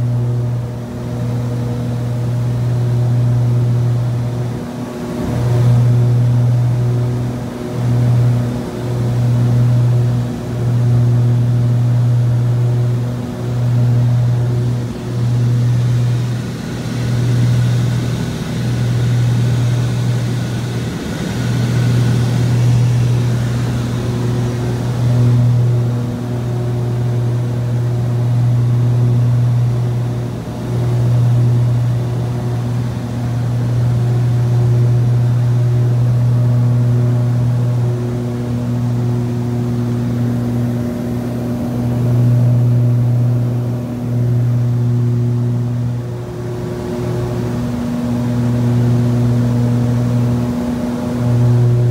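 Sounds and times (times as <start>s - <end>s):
propeller engines droning: 0.0s - 51.9s.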